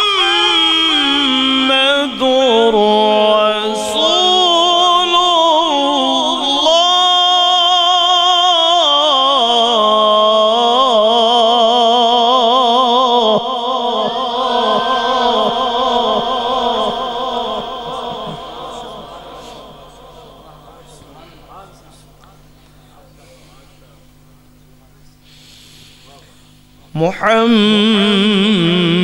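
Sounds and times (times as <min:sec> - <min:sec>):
man reciting melodically: 0:00.0 - 0:23.8, 0:26.9 - 0:29.0.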